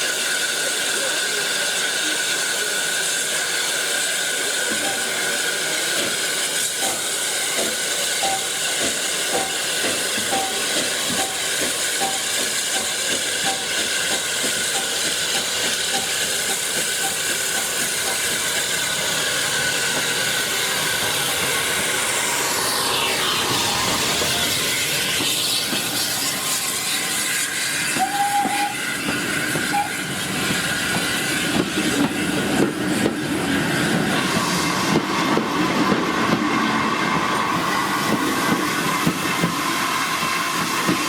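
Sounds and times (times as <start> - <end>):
train hissing: 0.0 - 41.0.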